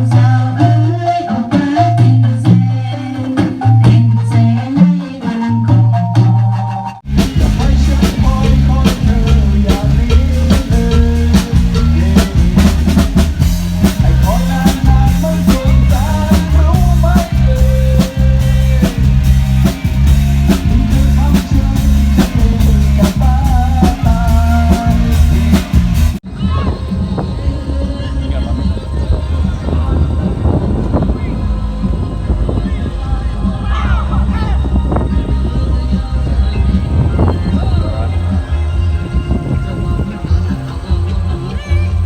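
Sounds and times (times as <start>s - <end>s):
music with drum kit and bass: 0.0s - 42.0s.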